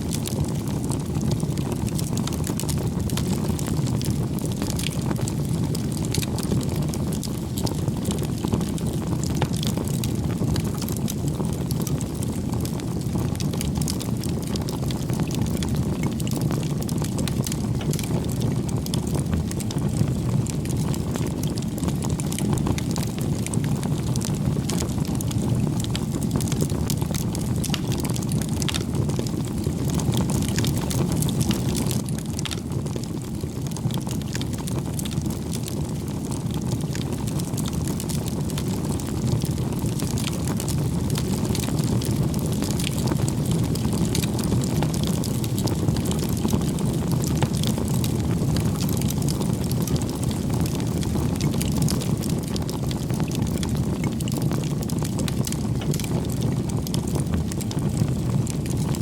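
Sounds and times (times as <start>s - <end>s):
fire popping and crackling: 0.0s - 59.0s
low rush of flame: 0.0s - 59.0s.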